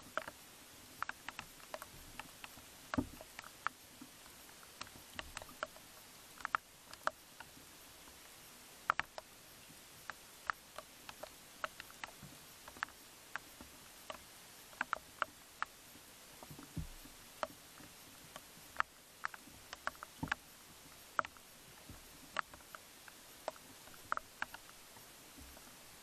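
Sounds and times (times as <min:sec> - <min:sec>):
faint sharp clicks: 0:00.0 - 0:26.0
steady hiss: 0:00.0 - 0:26.0.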